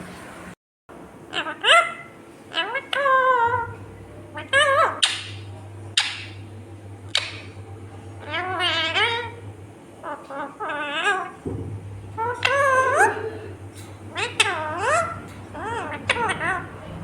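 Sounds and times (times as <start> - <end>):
steady low hum: 0.0 - 17.0
parakeet squawks: 1.3 - 6.4, 7.1 - 9.4, 10.0 - 11.4, 12.1 - 17.0
parakeet calling: 1.3 - 17.0.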